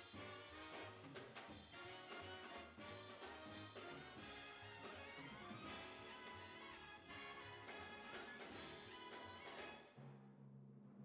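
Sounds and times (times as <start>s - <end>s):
orchestral light music: 0.0s - 10.0s.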